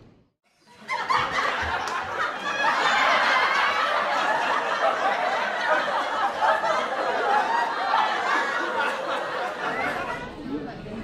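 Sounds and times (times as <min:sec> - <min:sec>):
crowd chattering and laughing: 0:00.6 - 0:11.0.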